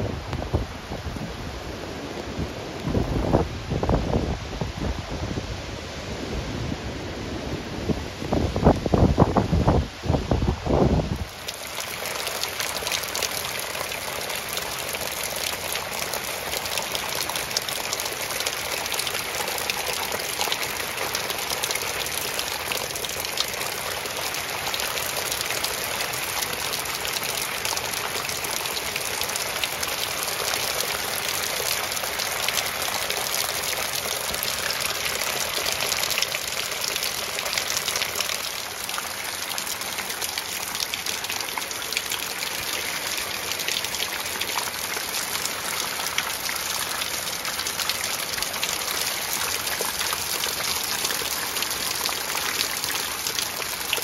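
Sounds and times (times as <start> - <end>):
heavy rain splashing into puddles: 0.0 - 54.0.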